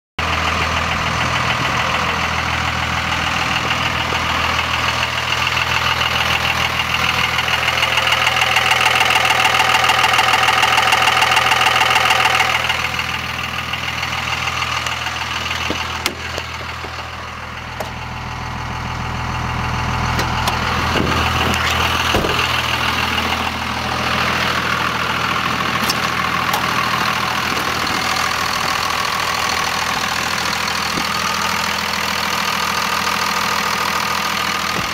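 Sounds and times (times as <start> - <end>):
engine idling: 0.2 - 34.9.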